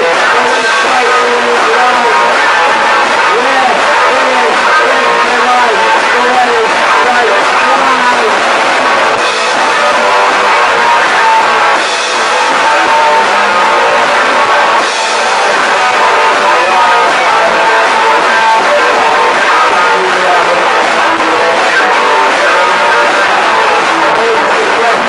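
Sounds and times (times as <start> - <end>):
bass guitar: 0.0 - 25.0
distorted electric guitar: 0.0 - 25.0
drum kit: 0.0 - 25.0.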